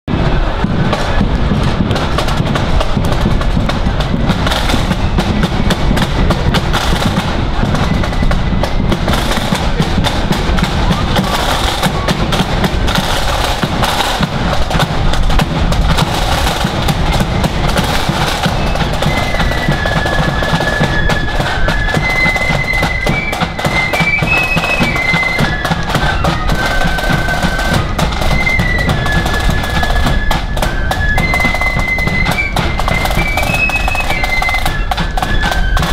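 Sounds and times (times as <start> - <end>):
flute melody: 0.1 - 35.9
side drums and bass drum: 0.1 - 35.9.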